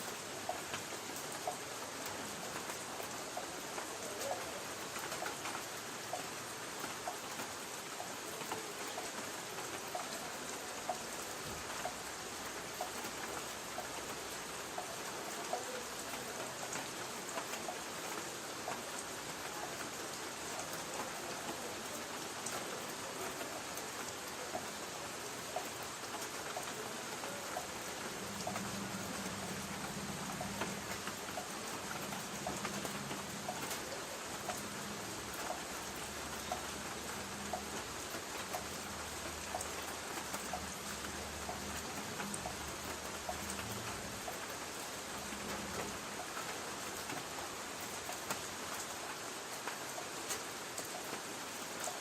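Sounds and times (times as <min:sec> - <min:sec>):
rain on a tin roof: 0:00.0 - 0:52.0.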